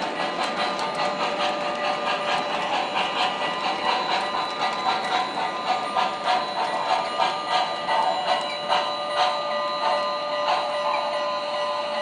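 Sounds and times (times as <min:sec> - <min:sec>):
model train steam chuffs: 0:00.0 - 0:12.0
model train wheels clicking: 0:00.0 - 0:12.0.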